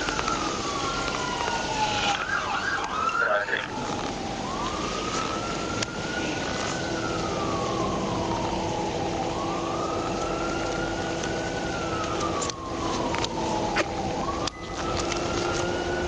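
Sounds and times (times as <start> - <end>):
emergency siren wailing: 0.0 - 16.0.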